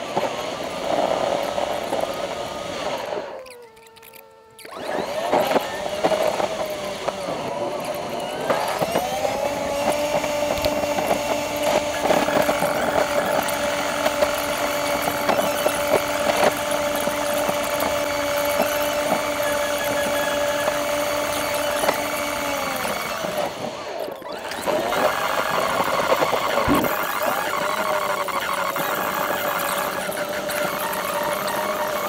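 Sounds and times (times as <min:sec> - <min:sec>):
sped up car engine whine: 0:00.0 - 0:32.0.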